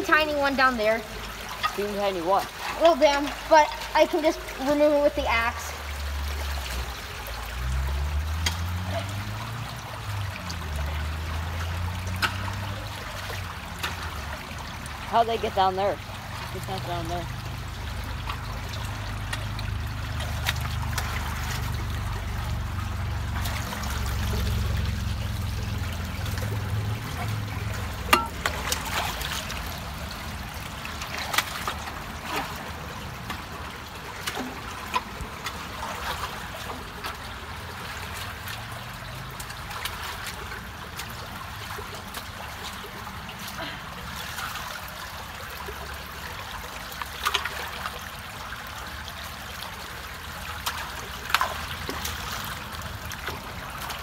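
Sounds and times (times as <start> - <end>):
water trickling and splashing: 0.0 - 54.0.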